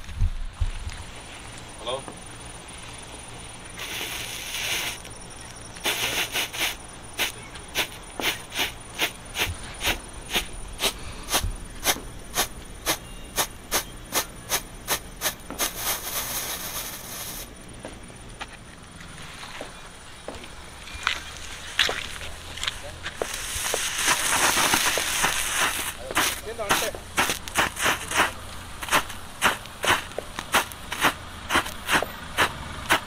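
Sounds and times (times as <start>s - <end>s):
firework strobe popping: 0.0s - 17.9s, 21.4s - 33.0s
firework hissing: 0.7s - 18.2s, 21.4s - 33.0s.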